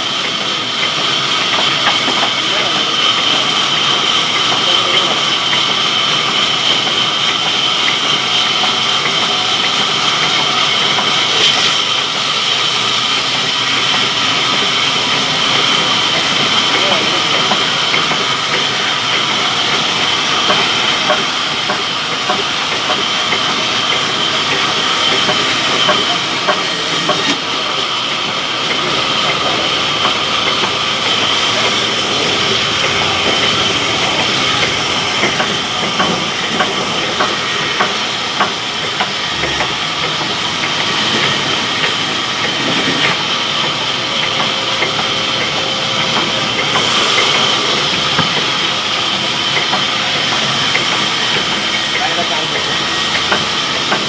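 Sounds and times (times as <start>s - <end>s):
sawmill saw cutting log: 0.0s - 54.0s.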